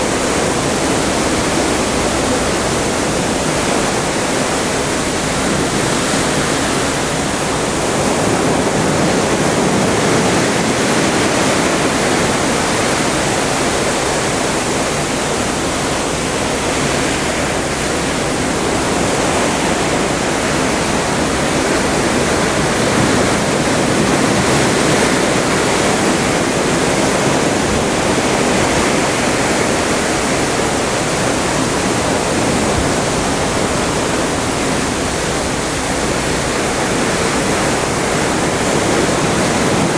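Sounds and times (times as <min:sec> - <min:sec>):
sea water rushing past a ship: 0:00.0 - 0:39.9.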